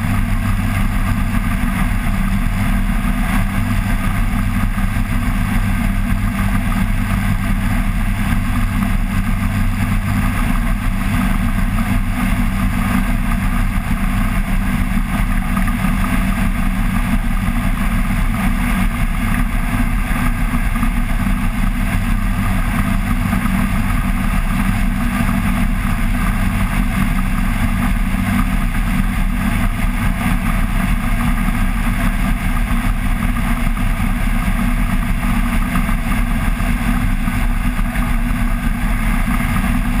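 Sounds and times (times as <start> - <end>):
aircraft engine and propeller drone: 0.0 - 40.0.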